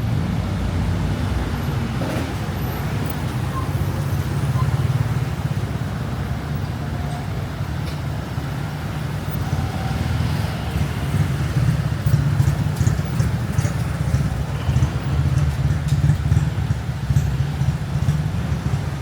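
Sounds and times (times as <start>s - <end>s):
passing cars and motorbikes: 0.0s - 19.0s.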